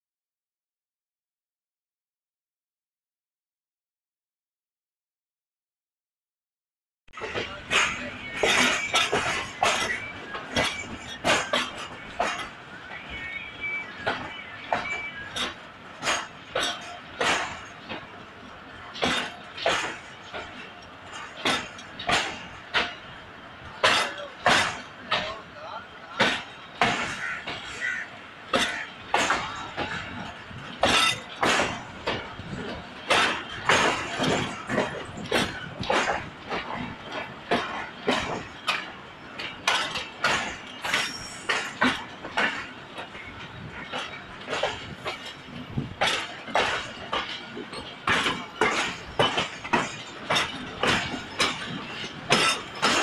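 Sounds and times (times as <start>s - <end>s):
train wheels clacking: 7.2s - 53.0s.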